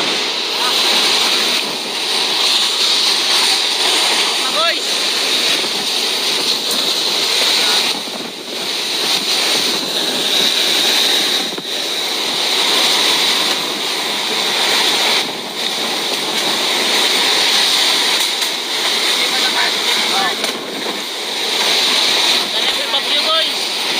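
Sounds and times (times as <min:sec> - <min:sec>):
strong wind gusts rushing: 0:00.0 - 0:23.9.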